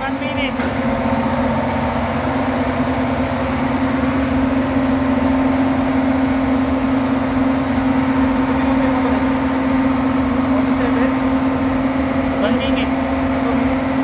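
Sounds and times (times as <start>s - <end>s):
generator engine humming: 0.0s - 14.0s.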